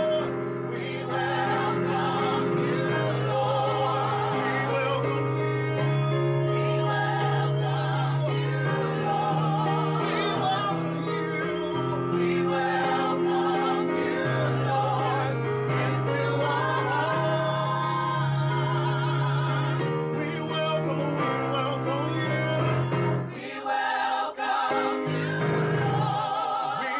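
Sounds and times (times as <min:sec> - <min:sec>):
gospel group singing in harmony: 0:00.0 - 0:26.9.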